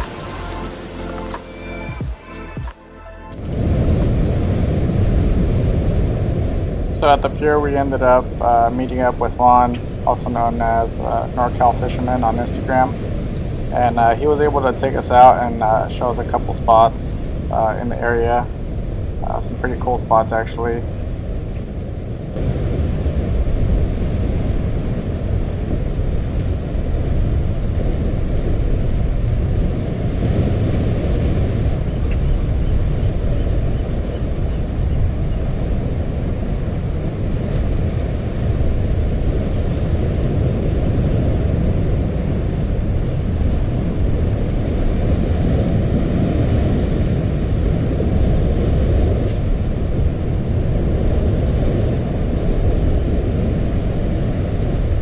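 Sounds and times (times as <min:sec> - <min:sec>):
ocean surf breaking: 0:00.0 - 0:02.8, 0:03.4 - 0:55.0
wind buffeting microphone: 0:03.4 - 0:55.0.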